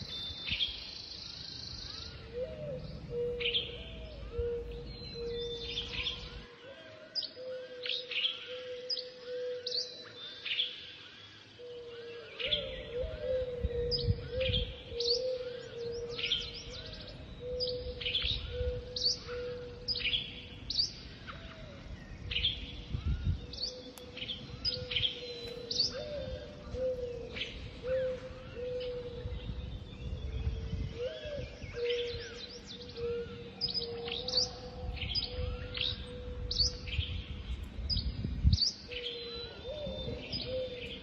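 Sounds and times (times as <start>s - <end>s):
light wind rumble: 0.0s - 6.6s, 12.4s - 41.0s
birds chirping and singing: 0.0s - 41.0s.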